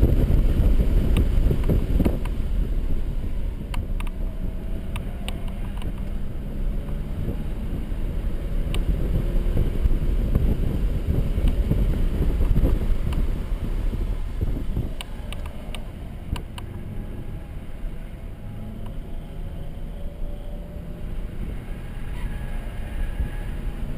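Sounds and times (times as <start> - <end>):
car engine under load: 0.0 - 23.9
road and wind noise: 0.0 - 23.9.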